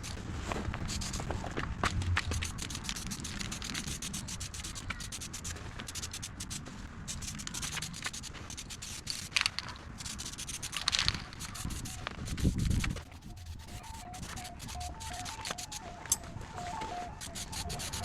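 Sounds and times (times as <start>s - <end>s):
hand sanding strokes: 0.8s - 1.3s, 2.0s - 18.0s.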